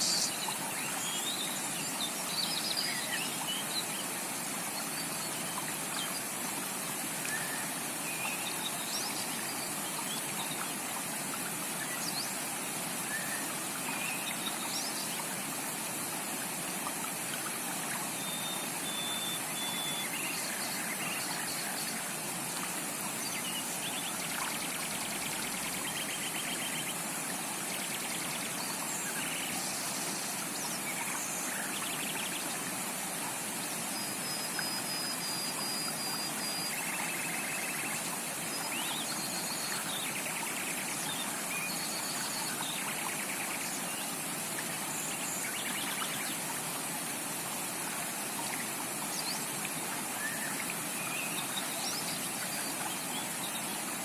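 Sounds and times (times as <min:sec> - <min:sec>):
creek running: 0:00.0 - 0:54.0.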